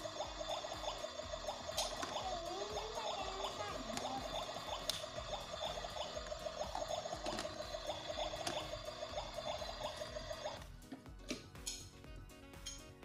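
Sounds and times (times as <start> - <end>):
toy stove electronic sizzle: 0.0 - 11.9.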